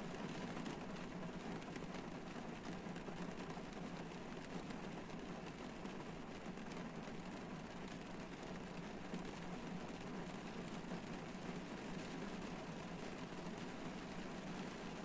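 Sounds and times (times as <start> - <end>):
rain on car roof: 0.0 - 15.0.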